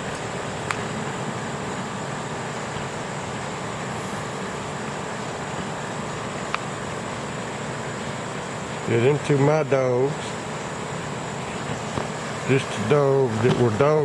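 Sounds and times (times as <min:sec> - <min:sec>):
pump motor humming: 0:00.0 - 0:14.0.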